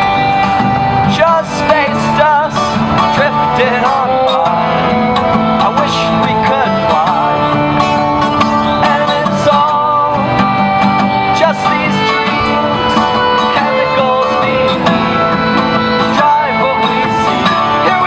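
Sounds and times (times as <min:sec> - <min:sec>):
accordion chords: 0:00.0 - 0:18.0
fiddle melody: 0:00.0 - 0:18.0.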